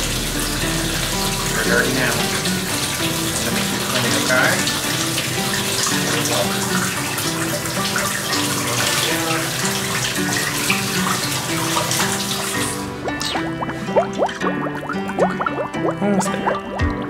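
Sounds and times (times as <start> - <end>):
soft background music: 0.0 - 17.0
water running from faucet: 0.0 - 17.0
water splashing over kitten: 0.0 - 17.0.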